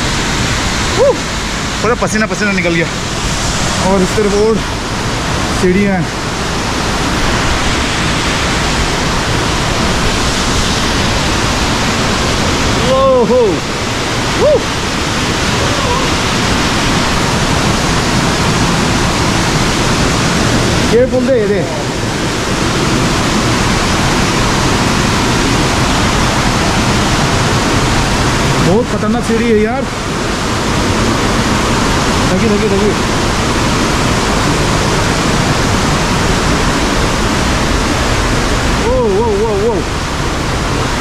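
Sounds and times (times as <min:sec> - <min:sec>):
water rushing down rocky stream: 0:00.0 - 0:41.0.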